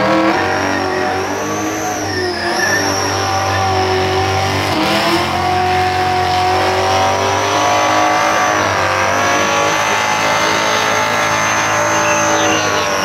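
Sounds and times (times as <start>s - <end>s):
engine at high revs: 0.0s - 13.0s.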